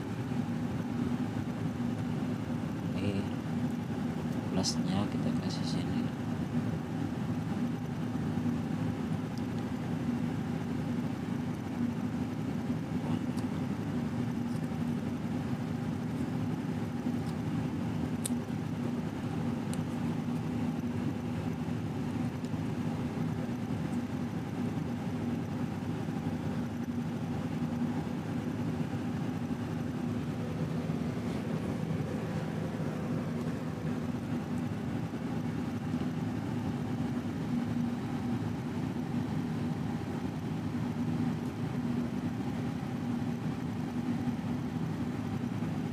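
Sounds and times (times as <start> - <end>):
motor drone: 6.8 - 45.9.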